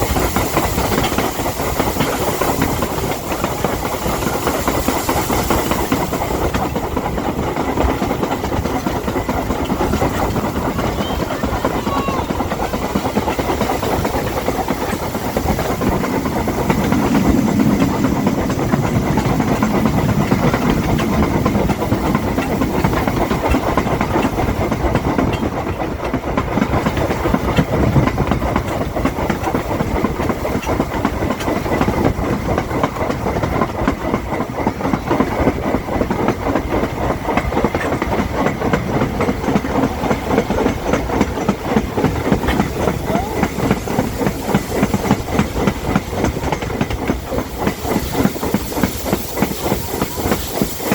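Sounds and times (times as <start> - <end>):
hiss: 0.0 - 50.9
train rumbling on track: 0.0 - 50.9.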